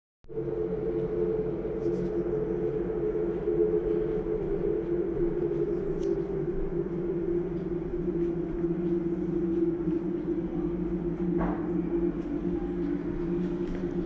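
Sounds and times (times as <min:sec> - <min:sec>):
mechanical drone: 0:00.3 - 0:14.0.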